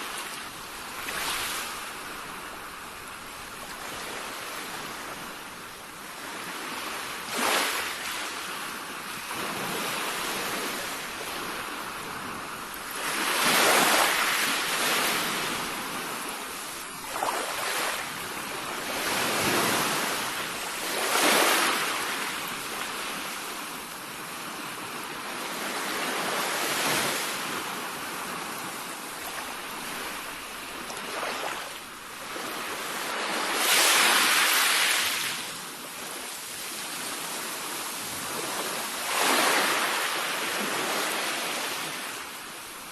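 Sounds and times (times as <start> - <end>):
sea waves breaking on shore: 0.0 - 42.9.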